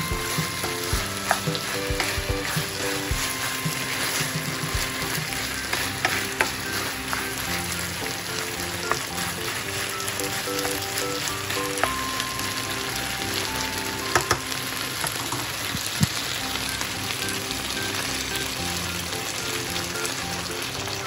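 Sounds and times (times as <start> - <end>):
stir-fry sizzling in a pan: 0.0 - 21.0.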